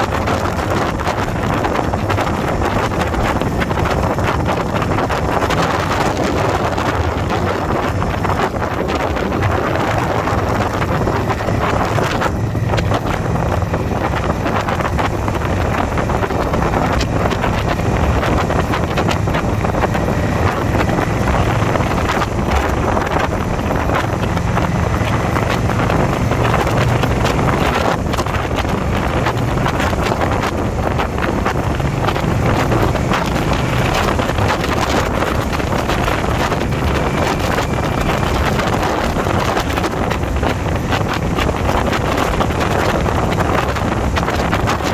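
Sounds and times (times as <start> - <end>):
motorcycle engine running: 0.0 - 44.9
wind buffeting microphone: 0.0 - 44.9.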